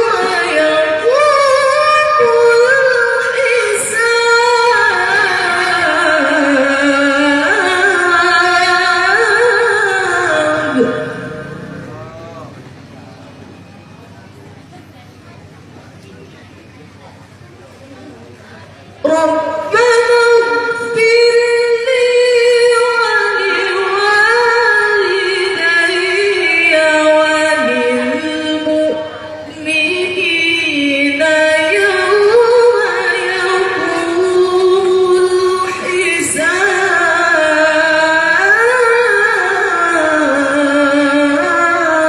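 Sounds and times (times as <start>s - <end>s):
woman chanting melodically: 0.0s - 15.7s, 18.5s - 42.0s.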